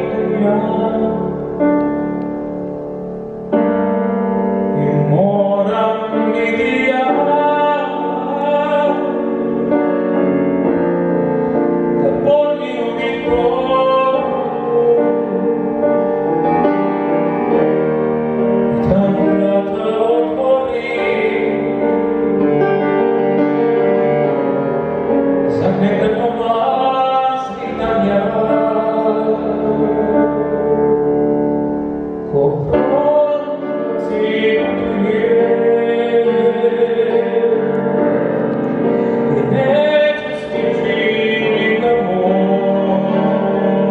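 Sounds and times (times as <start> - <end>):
man singing: 0.0 - 17.1, 18.6 - 23.9, 25.3 - 43.9
piano accompaniment: 0.0 - 43.9.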